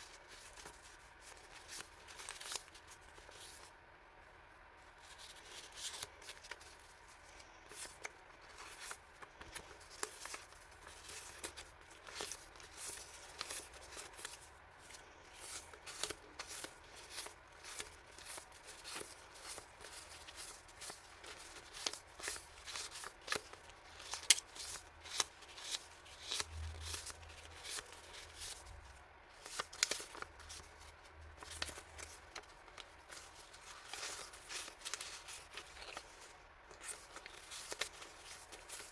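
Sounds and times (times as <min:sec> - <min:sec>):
packaging and paper rustling: 0:05.0 - 0:38.9.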